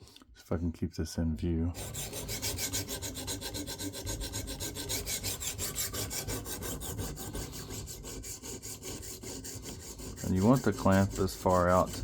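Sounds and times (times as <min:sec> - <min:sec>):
sharpening stone rasping on knife: 0:01.8 - 0:12.0.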